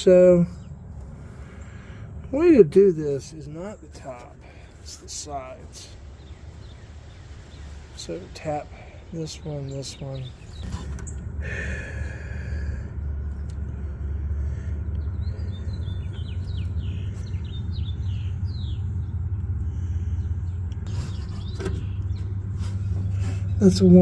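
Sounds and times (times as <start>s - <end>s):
low motor rumble: 0.0s - 24.0s.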